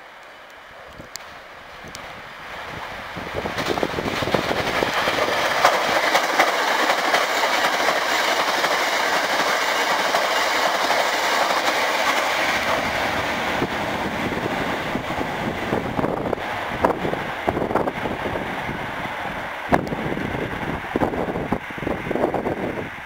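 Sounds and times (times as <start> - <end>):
train running noise: 0.0 - 23.0
wheels clacking over rail joints: 0.8 - 21.2.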